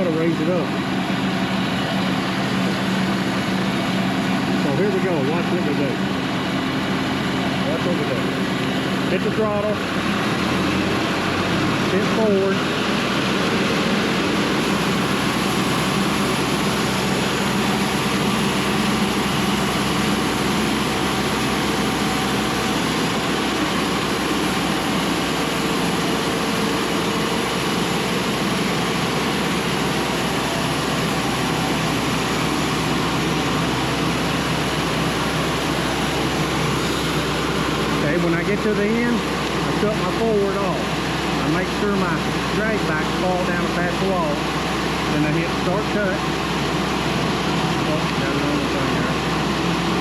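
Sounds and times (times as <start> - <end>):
bandsaw mill diesel engine running: 0.0 - 50.0.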